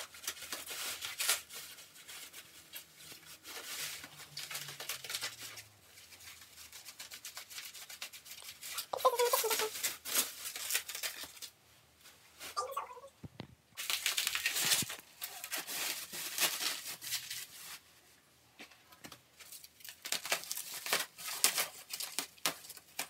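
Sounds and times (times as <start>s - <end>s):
bubble wrap crinkling and tearing: 0.0s - 13.0s, 13.8s - 18.2s, 18.9s - 23.0s.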